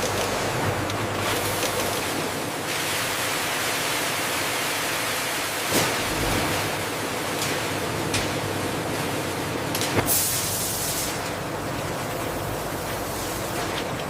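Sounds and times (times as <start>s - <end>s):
food-processing machinery hissing: 0.0s - 14.0s.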